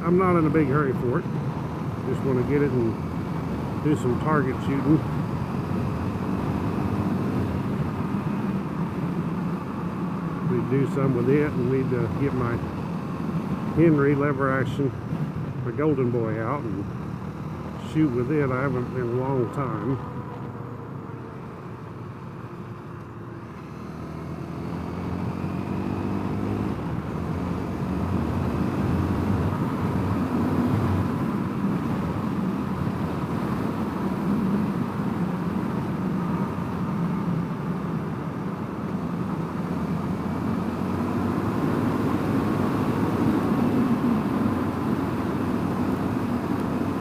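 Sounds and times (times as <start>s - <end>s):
motorcycle engine accelerating: 0.0s - 14.1s, 15.0s - 36.7s, 39.1s - 47.0s.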